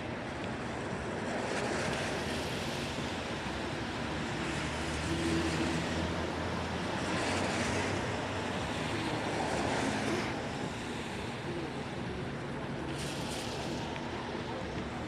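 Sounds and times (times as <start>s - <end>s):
tyres hissing on wet asphalt: 1.4s - 15.0s.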